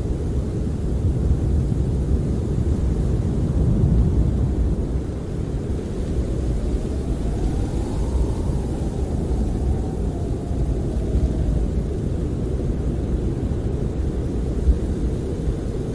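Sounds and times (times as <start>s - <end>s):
faint wind howl: 0.0s - 15.9s
low wind rumble: 0.0s - 15.9s.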